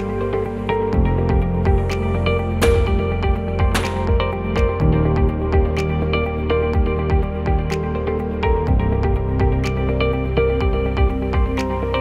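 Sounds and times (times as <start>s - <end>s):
background music with low beat: 0.0s - 12.0s.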